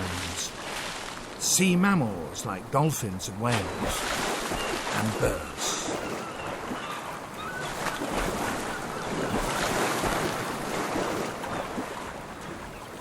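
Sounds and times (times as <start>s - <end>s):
ocean surf: 0.0s - 13.0s
wind at sea: 0.0s - 13.0s.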